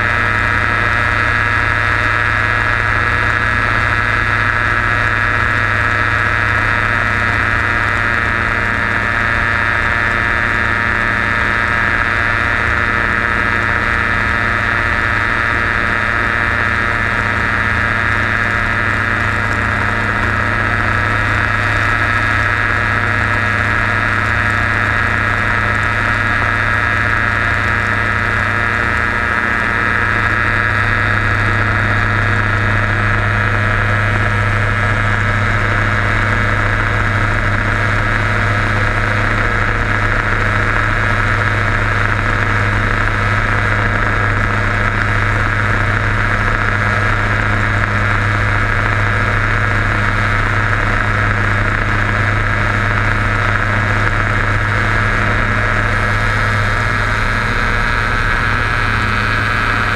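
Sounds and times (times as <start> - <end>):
ultralight aircraft engine drone: 0.0 - 59.9.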